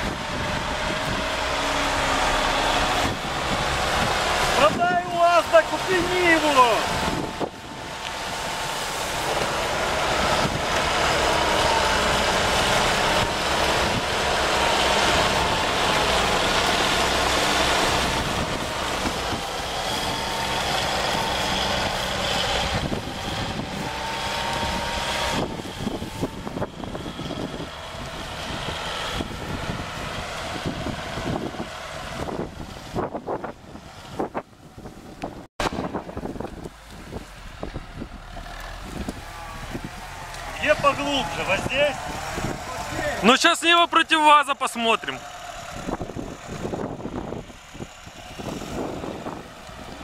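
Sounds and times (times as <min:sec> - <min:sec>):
off-road vehicle engine under load: 0:00.0 - 0:50.0.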